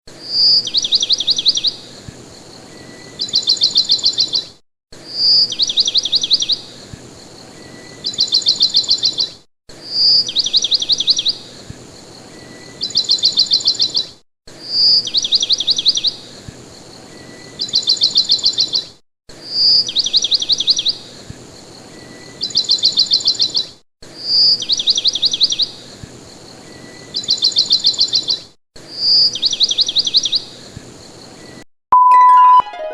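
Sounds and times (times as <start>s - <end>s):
songbird trilling song: 0.2s - 4.5s, 5.1s - 14.1s, 14.7s - 18.9s, 19.5s - 26.0s, 26.6s - 28.4s, 29.0s - 30.6s.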